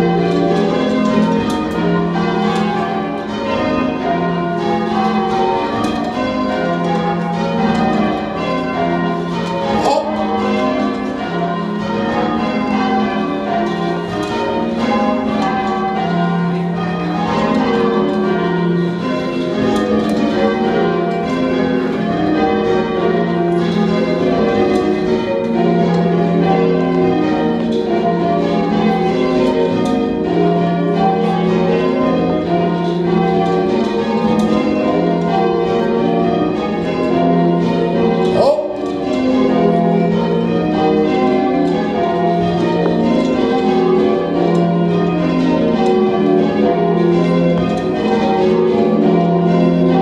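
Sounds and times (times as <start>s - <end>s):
church bells ringing: 0.0s - 50.0s.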